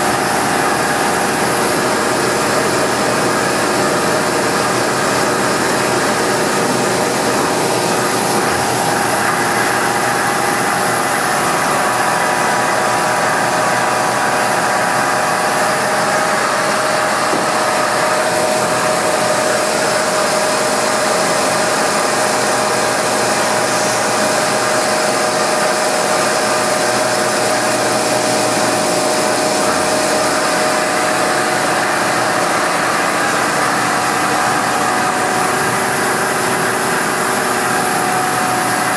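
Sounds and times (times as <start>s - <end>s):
coolant hissing: 0.0s - 38.9s
milling machine hum: 0.0s - 38.9s.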